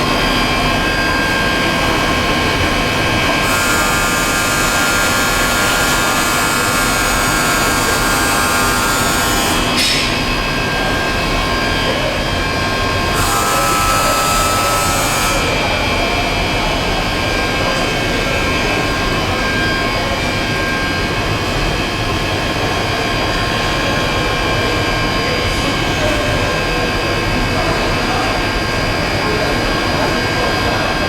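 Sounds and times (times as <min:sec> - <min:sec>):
machine noise with whining tones: 0:00.0 - 0:31.0.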